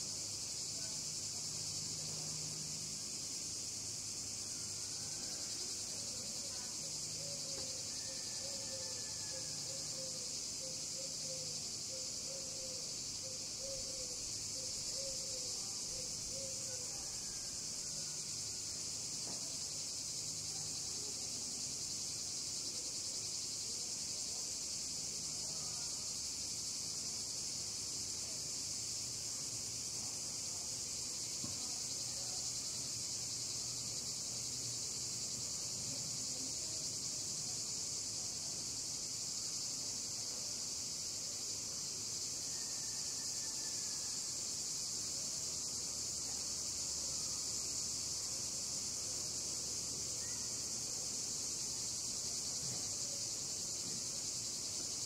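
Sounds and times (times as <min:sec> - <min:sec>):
cicadas shrilling: 0:00.0 - 0:55.0.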